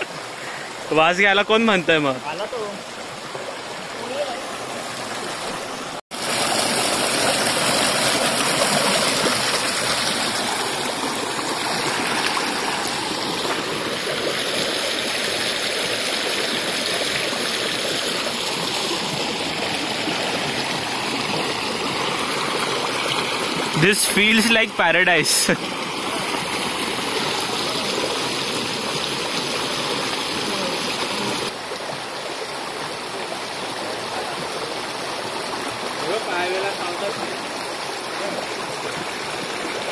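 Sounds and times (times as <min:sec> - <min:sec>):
stream water rushing at waterfall: 0:00.0 - 0:39.9.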